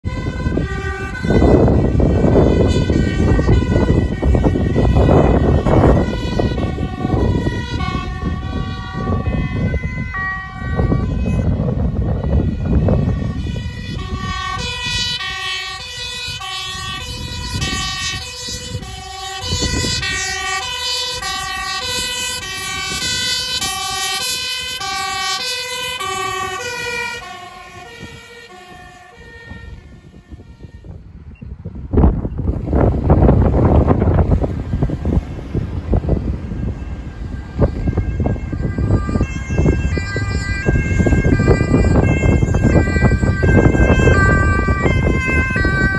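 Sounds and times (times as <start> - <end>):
two-tone sirens: 0.0 - 45.9
wind rumble on microphone: 0.0 - 45.9.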